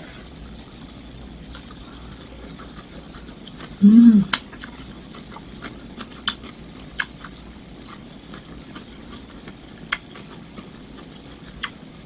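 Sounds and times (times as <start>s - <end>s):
person chewing food: 1.4s - 12.0s.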